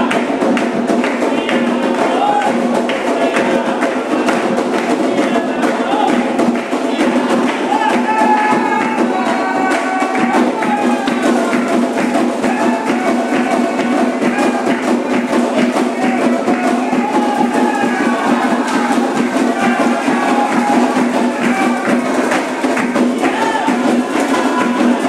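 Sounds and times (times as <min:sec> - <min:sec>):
drums: 0:00.0 - 0:25.0
voices singing: 0:00.0 - 0:25.0
wood block percussion: 0:00.0 - 0:25.0.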